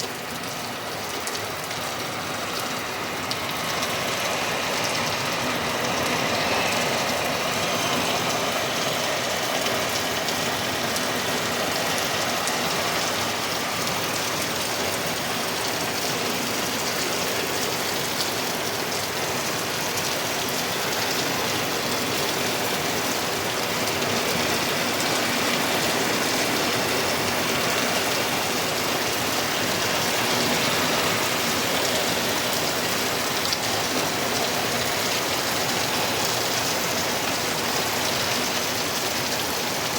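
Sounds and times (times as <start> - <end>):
hard rain pouring: 0.0 - 39.9.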